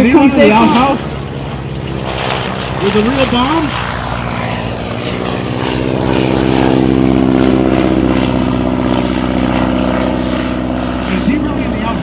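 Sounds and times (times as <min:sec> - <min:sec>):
propeller biplane engine drone: 0:00.0 - 0:12.0.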